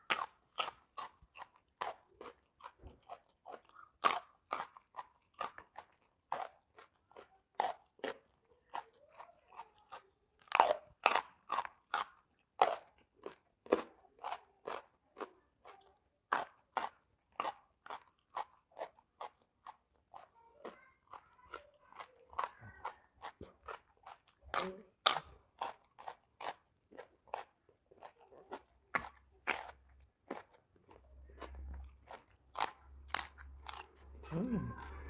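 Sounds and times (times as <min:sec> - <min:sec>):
person crunching beans: 0:00.0 - 0:35.0
wet chewing: 0:00.0 - 0:35.0.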